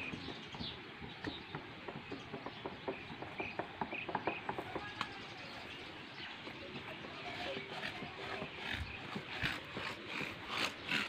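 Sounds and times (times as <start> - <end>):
bird chirps: 0.0 - 9.4.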